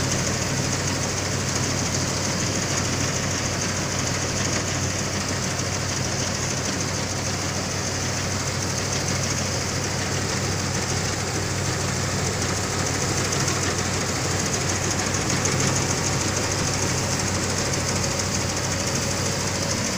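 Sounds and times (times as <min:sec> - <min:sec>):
combine harvester engine drone: 0:00.0 - 0:19.9
machinery hissing and rattling: 0:00.0 - 0:19.9.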